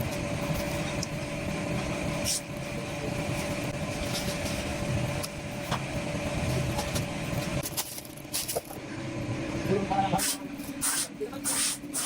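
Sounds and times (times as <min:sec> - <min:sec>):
factory machinery humming: 0:00.0 - 0:12.0.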